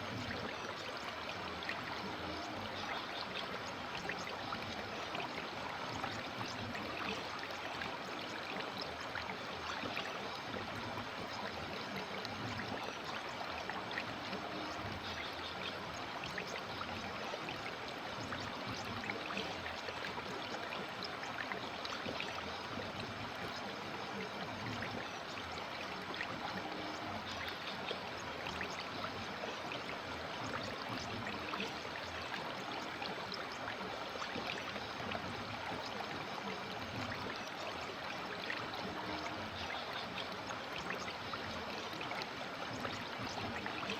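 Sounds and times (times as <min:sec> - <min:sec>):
river water babbling: 0:00.0 - 0:43.9.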